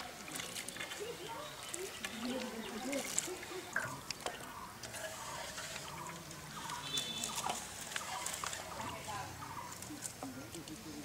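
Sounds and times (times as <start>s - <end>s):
potatoes rinsed in water basin: 0.0s - 10.8s
chickens clucking: 1.0s - 10.2s.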